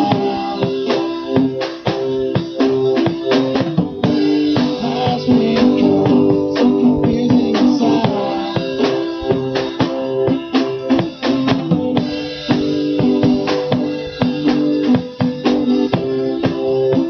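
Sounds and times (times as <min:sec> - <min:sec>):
drum kit beat: 0:00.0 - 0:17.0
sustained guitar chords: 0:00.0 - 0:17.0.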